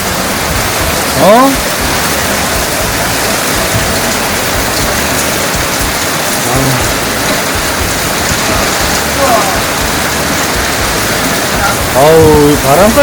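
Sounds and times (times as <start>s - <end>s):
heavy rain in strong wind: 0.0s - 13.0s.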